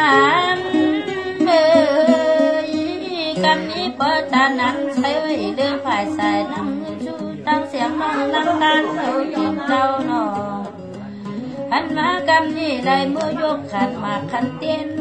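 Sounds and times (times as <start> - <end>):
instrumental accompaniment: 0.0 - 15.0
person singing folk melody: 0.0 - 15.0.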